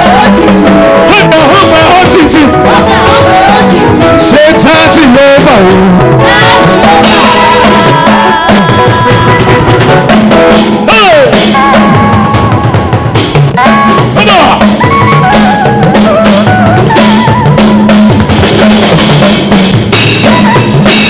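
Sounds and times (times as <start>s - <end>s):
drum kit beat: 0.0s - 21.0s
gospel music: 0.0s - 21.0s.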